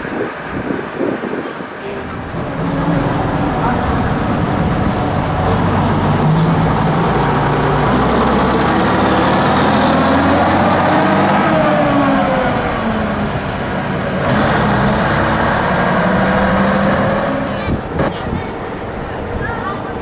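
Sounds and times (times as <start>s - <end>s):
bus diesel engine pulling away: 0.0s - 20.0s.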